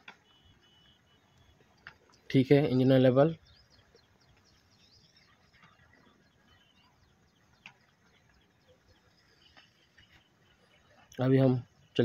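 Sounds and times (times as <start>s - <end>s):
faint bird chirps: 0.1s - 12.0s.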